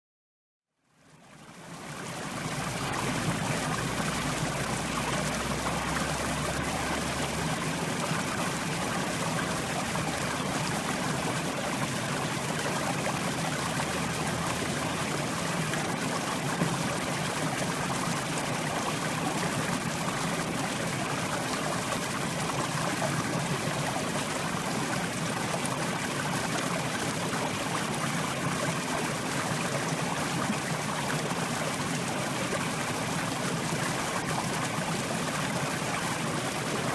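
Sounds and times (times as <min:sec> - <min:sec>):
river flowing over rocks: 0:01.4 - 0:36.9.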